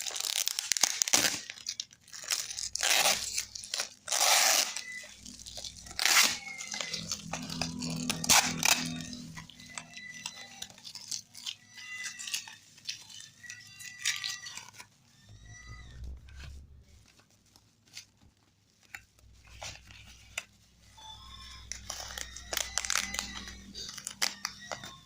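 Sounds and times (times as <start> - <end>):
plastic wrap rustling and tearing: 0.0 - 25.0
small clicks and squeaks: 0.0 - 25.0.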